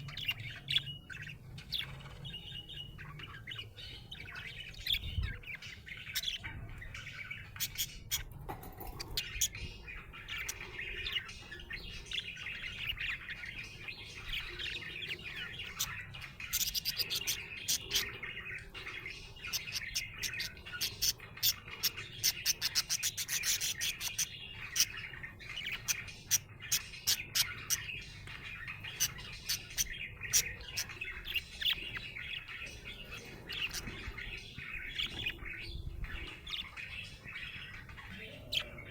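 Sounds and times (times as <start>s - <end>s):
budgerigar chirping and warbling: 0.0s - 38.9s.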